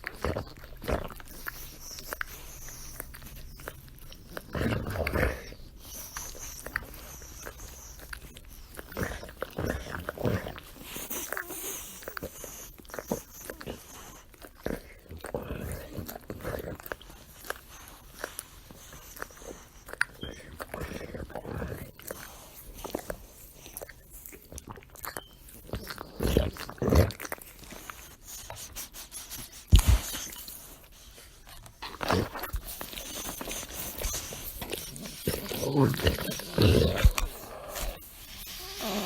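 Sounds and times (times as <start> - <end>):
dog licking: 0.0 - 39.0.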